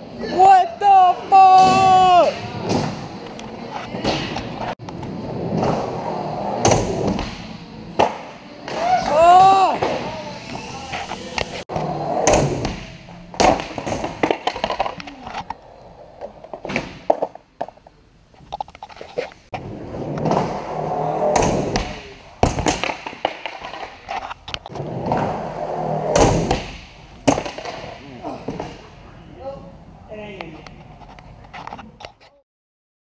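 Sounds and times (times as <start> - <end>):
skateboard wheels rolling on concrete: 0.0 - 29.1.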